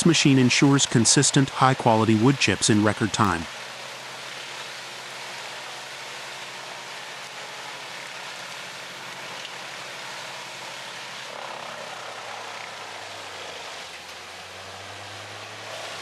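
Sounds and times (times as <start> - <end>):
wood chipper engine drone: 0.0 - 16.0.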